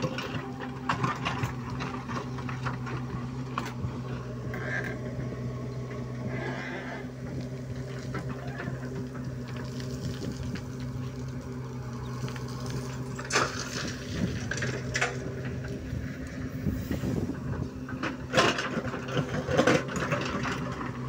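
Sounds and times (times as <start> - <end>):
clatter of soil and stones: 0.0 - 21.0
diesel engine running under load: 0.0 - 21.0.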